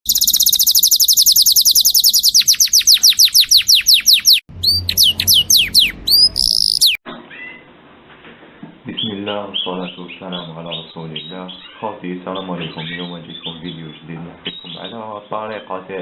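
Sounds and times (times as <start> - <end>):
canary singing: 0.1 - 7.6, 8.9 - 15.7.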